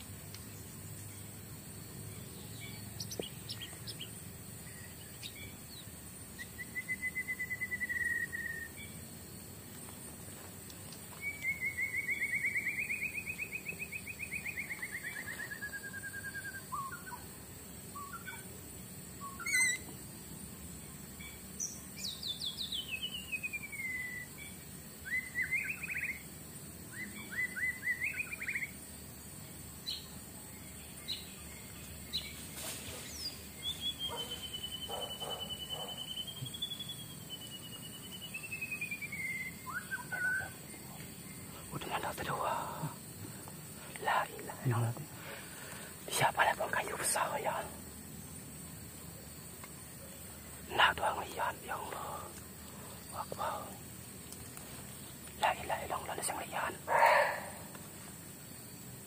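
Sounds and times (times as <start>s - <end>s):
forest birds calling: 0.0s - 58.8s
high insect drone: 0.0s - 59.0s.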